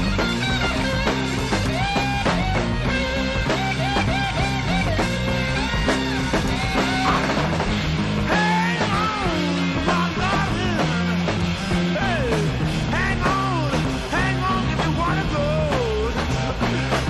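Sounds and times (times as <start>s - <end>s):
electric guitar lead lines: 0.0s - 17.0s
psychedelic rock song: 0.0s - 17.0s
steady bass notes: 0.0s - 17.0s.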